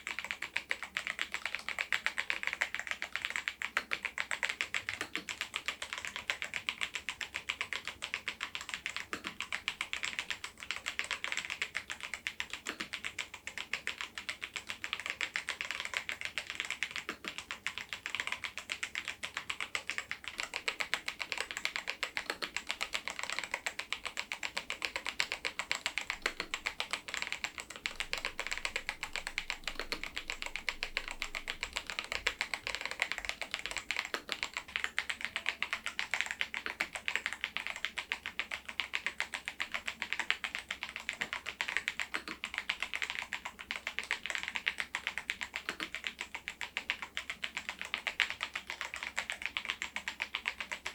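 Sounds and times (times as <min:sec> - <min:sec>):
mechanical keyboard typing: 0:00.0 - 0:50.9.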